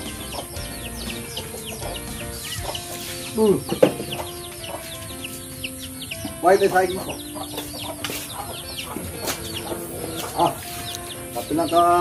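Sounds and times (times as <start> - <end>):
chickens clucking: 0.0 - 12.0
chicks peeping: 0.0 - 12.0.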